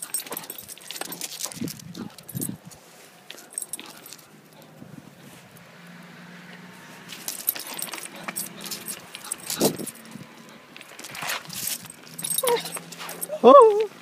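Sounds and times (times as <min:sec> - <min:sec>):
metallic jingling and rattling: 0:00.0 - 0:04.9, 0:07.0 - 0:14.0.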